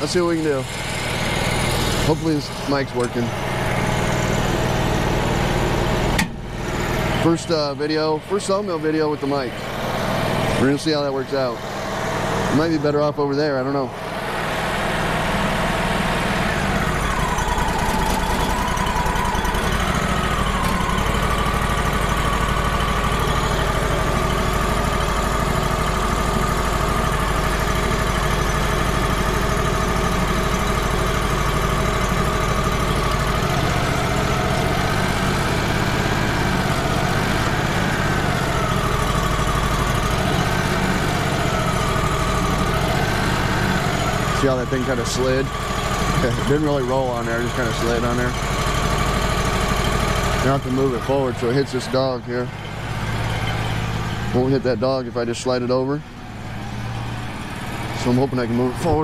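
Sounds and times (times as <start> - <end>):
hydraulic whining tone: 0.0 - 59.0
sawmill engine running: 0.0 - 59.0.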